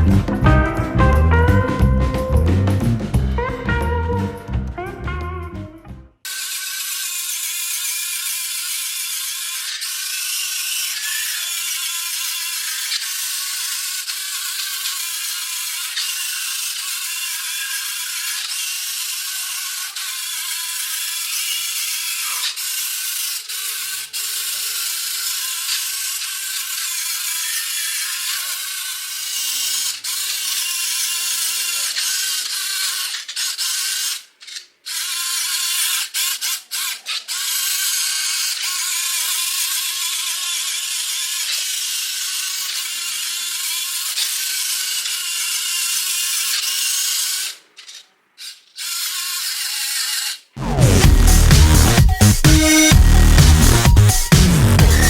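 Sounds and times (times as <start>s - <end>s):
toy car motor rattling buzz: 6.2s - 55.0s.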